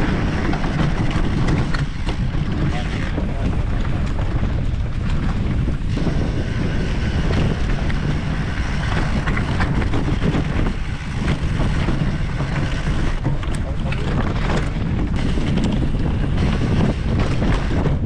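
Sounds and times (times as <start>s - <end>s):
bike clicks and rattles: 0.0s - 18.0s
tyres on dirt: 0.0s - 18.0s
wind on microphone: 0.0s - 18.0s.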